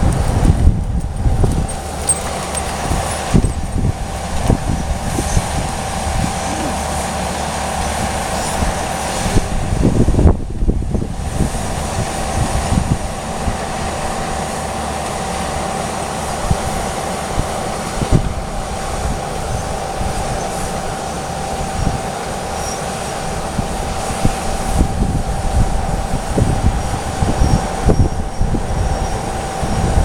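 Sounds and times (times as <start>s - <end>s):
vehicle rumbling: 0.0s - 30.0s.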